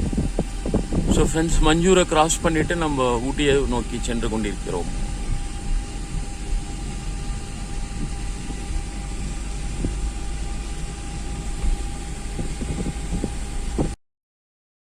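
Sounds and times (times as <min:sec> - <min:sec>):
vehicle driving on road: 0:00.0 - 0:14.0.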